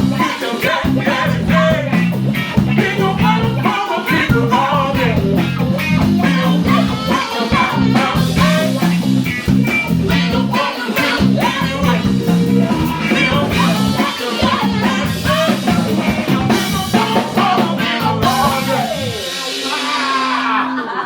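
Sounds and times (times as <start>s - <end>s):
bass guitar: 0.0s - 20.6s
drums keeping a steady beat: 0.0s - 21.0s
electric guitar: 0.0s - 21.0s.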